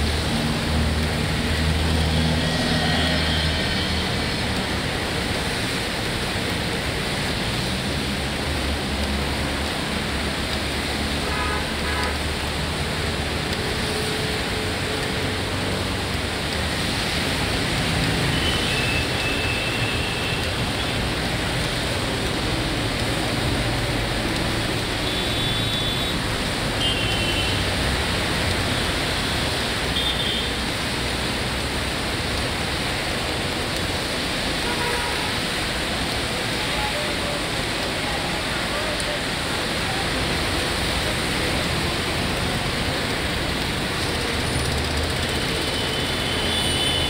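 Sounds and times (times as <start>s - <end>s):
falling rain: 0.0s - 47.0s
tyres hissing on wet road: 0.0s - 47.0s
vehicles passing: 0.0s - 47.0s.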